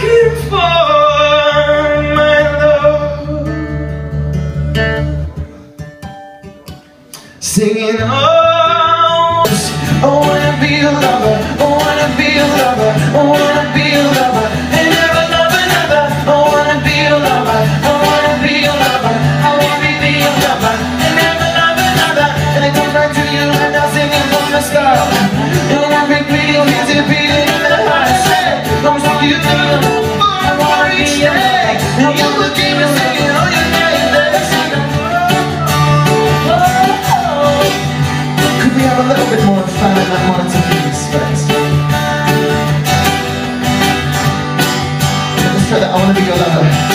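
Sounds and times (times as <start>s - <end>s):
person singing: 0.0s - 5.8s, 7.0s - 42.8s
acoustic guitars: 0.0s - 46.9s.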